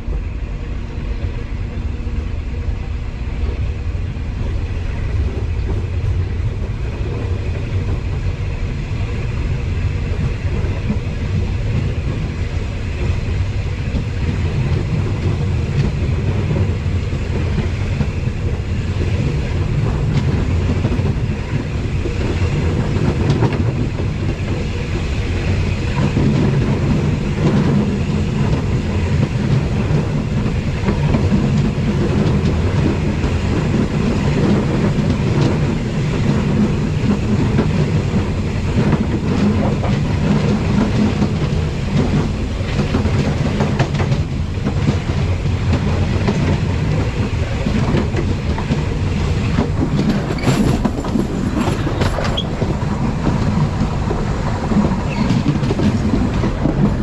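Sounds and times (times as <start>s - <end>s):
clickety-clack of rails: 0.0s - 57.0s
train engine and wheel rumble: 0.0s - 57.0s.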